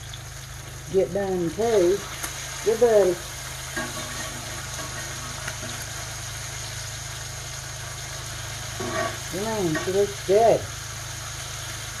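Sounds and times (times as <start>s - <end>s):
food sizzling in skillets: 0.0s - 12.0s.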